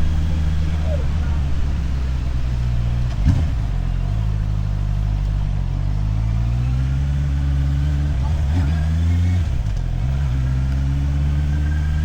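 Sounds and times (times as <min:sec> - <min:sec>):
motorcycle engine at low revs: 0:00.0 - 0:12.0
tyre noise on wet road: 0:00.0 - 0:12.0.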